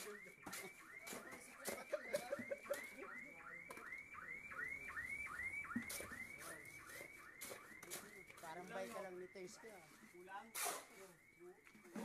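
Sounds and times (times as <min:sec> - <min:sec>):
electronic alarm whooping: 0:00.0 - 0:10.0.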